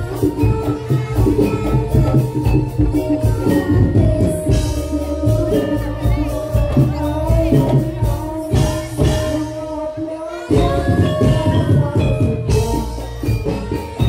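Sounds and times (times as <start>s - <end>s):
gamelan dance music: 0.0s - 14.0s
heavy drums: 0.0s - 14.0s
person singing: 0.0s - 14.0s.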